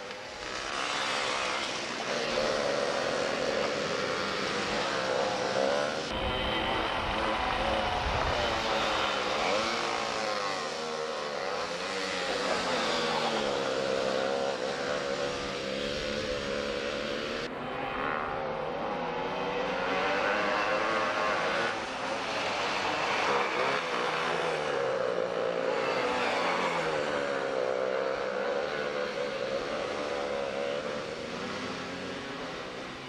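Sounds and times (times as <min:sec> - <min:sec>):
go-kart engines running: 0:00.0 - 0:33.0.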